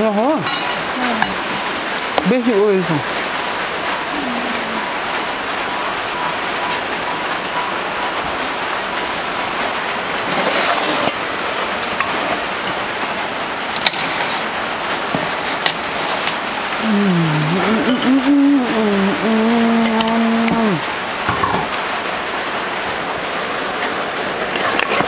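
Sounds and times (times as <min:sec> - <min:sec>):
heavy rain on roof: 0:00.0 - 0:25.0.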